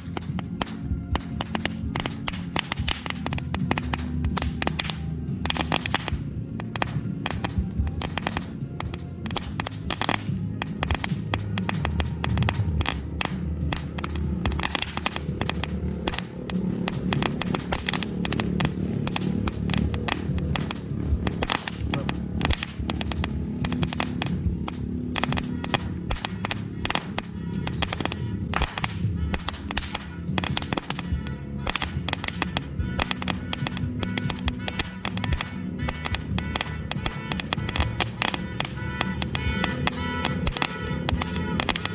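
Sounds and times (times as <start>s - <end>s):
crackling fireworks pops and bangs: 0.0s - 41.9s
music playing: 0.0s - 41.9s.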